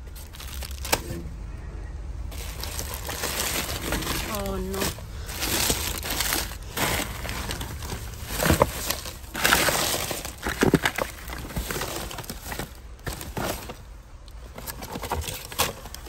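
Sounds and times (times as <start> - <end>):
plastic bags rustling and crinkling: 0.0 - 1.2, 2.3 - 16.0.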